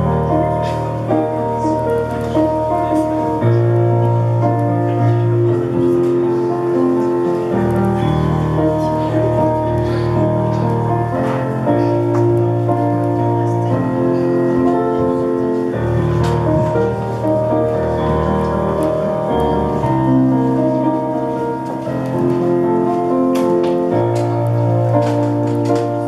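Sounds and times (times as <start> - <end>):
slow keyboard music: 0.0 - 26.0.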